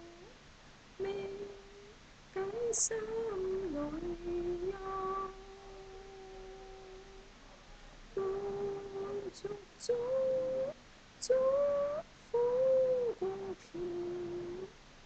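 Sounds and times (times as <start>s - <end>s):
woman humming: 0.0s - 0.3s, 1.0s - 7.3s, 8.2s - 14.7s.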